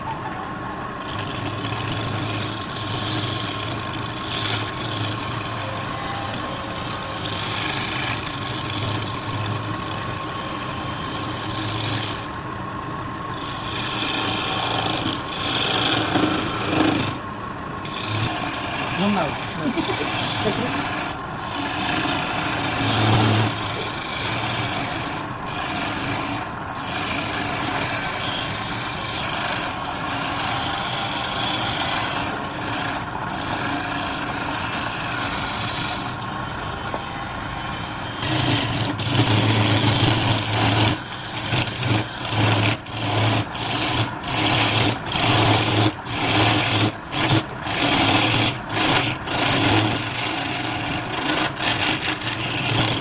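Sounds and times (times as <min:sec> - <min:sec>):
wood lathe running: 0:00.9 - 0:53.0
tool scraping spinning wood: 0:01.0 - 0:12.6, 0:13.2 - 0:53.0.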